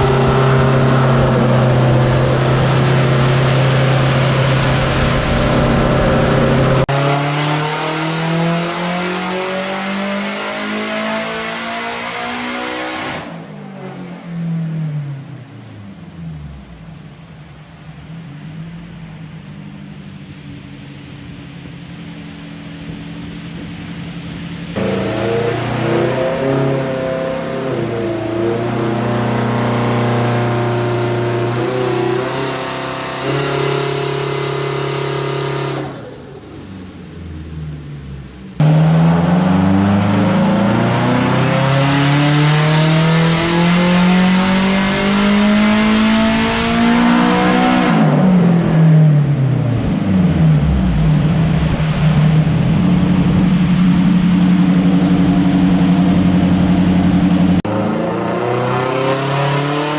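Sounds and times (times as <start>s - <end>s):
turbocharged car engine revving: 0.0s - 59.9s.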